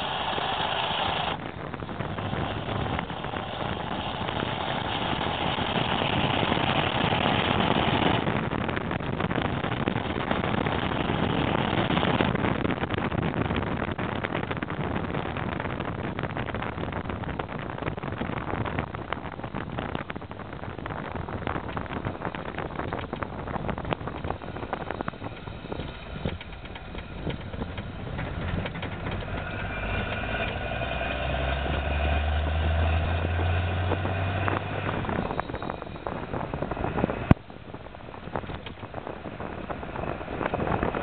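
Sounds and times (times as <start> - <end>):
turbodiesel truck engine: 0.0 - 41.0.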